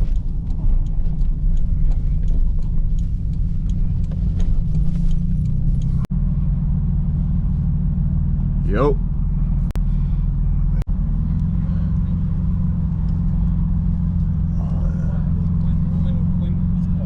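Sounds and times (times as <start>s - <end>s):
car engine droning while driving: 0.0s - 17.0s.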